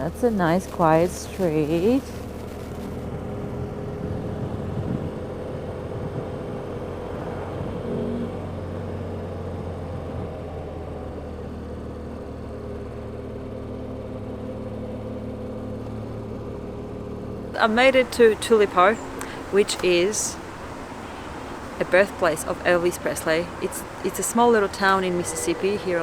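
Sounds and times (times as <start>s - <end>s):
motorcycle engine cruising: 0.0s - 26.0s
road noise: 0.0s - 26.0s.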